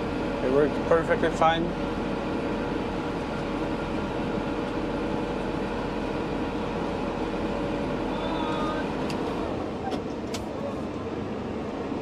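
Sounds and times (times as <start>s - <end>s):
tractor and harvester droning: 0.0s - 12.0s.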